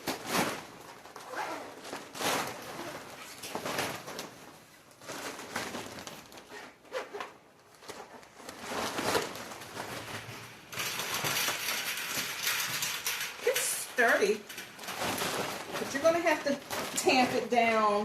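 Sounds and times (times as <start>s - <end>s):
plastic cover rustling and crinkling: 0.0s - 18.0s.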